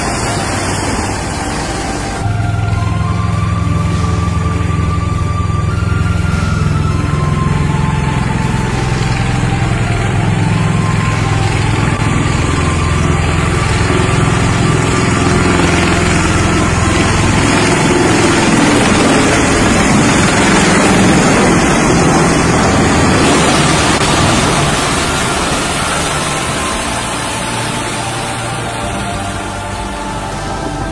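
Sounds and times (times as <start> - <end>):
rushing noise: 0.0 - 30.9
tiltrotor aircraft heavy drone: 0.0 - 30.9.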